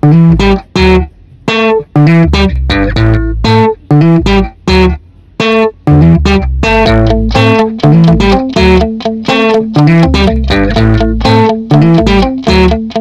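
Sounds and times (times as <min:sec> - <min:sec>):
bass line: 0:00.0 - 0:09.1, 0:09.7 - 0:12.9
plucked guitar notes: 0:00.0 - 0:13.0.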